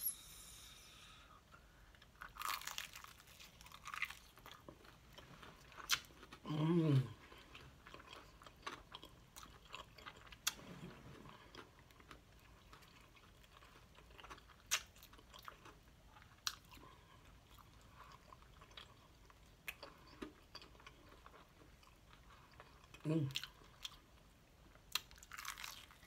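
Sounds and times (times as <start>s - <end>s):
close chewing: 2.0s - 10.6s, 11.2s - 24.0s.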